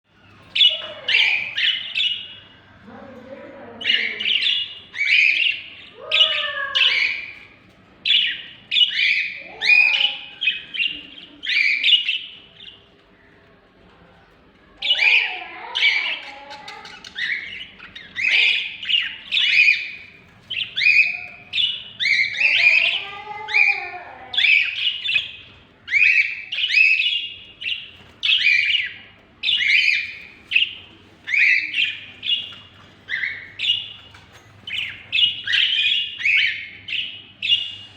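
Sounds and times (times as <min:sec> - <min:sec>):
parrots calling loudly: 0:00.2 - 0:02.8, 0:03.6 - 0:13.4, 0:14.7 - 0:37.9.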